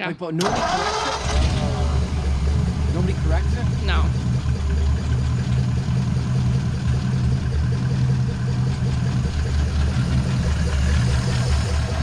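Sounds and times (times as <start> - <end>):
car engine idling: 0.4 - 12.0.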